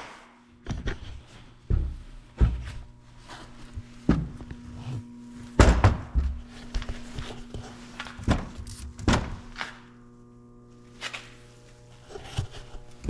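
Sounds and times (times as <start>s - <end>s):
faint steady hum: 0.3s - 13.0s.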